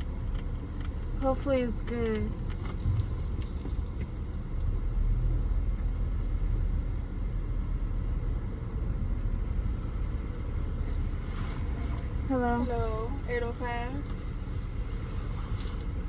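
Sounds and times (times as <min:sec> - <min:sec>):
car engine rumble from inside cabin: 0:00.0 - 0:16.0.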